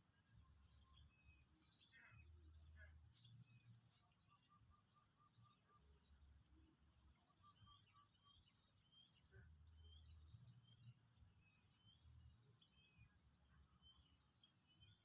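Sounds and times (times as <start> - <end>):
insect drone: 0.0 - 15.0
small birds chirping: 0.0 - 15.0.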